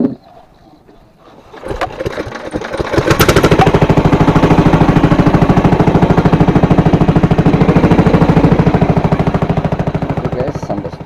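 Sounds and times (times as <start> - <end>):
small boat engine chugging: 0.8 - 11.0.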